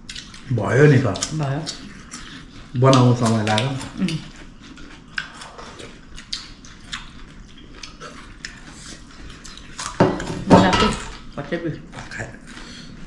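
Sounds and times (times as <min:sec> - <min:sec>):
person chewing food: 0:00.0 - 0:10.4, 0:11.2 - 0:13.0.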